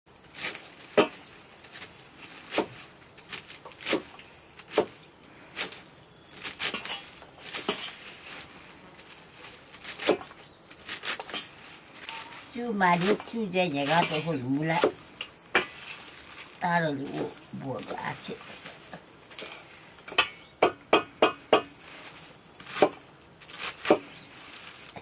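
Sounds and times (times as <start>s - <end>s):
sickle blade slicing greens: 0.3s - 25.0s.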